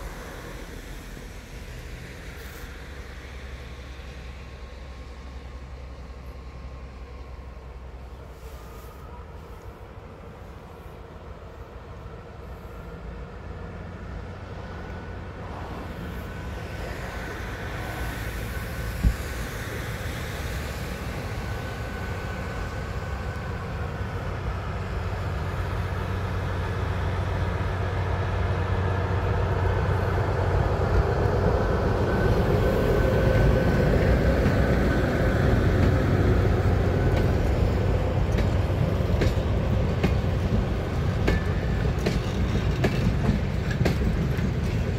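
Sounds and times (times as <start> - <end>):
locomotive engine drone: 0.0 - 44.9
train wheels rolling on rails: 0.0 - 44.9.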